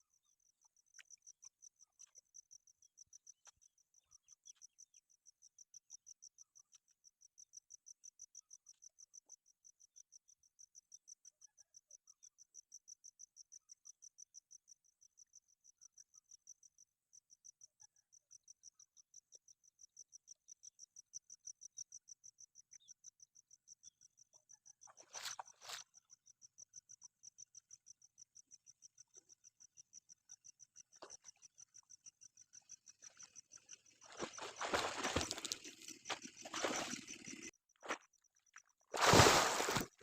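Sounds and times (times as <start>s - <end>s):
insect chirping: 0.0s - 40.0s.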